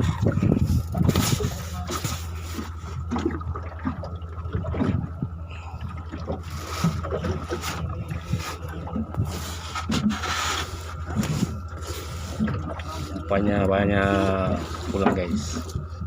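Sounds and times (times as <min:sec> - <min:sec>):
low hum: 0:00.0 - 0:16.0
water trickling and sloshing: 0:00.0 - 0:16.0.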